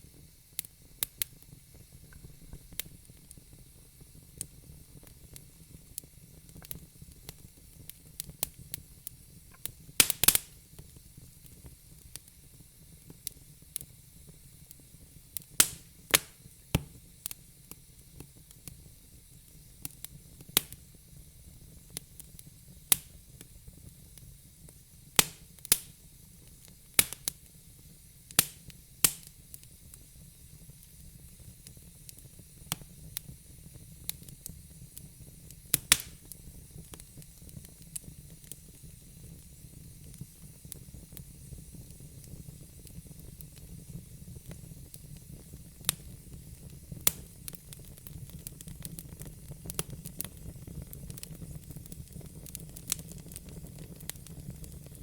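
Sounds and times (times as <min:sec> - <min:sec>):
fire crackling and popping: 0:00.0 - 0:55.0
soft hiss: 0:00.0 - 0:55.0.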